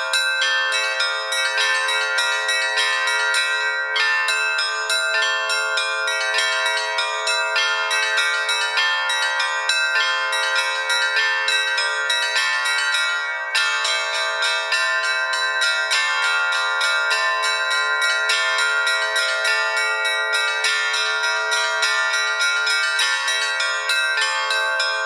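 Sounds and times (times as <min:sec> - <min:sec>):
bells ringing: 0:00.0 - 0:25.0.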